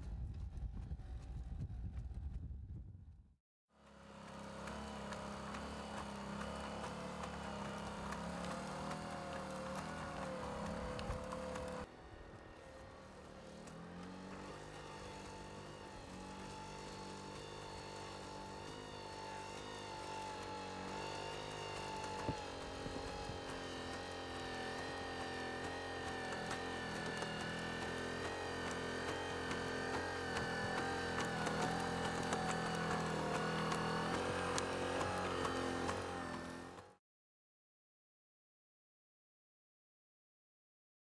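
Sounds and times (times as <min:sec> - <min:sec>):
robot engine droning: 0:03.8 - 0:37.0.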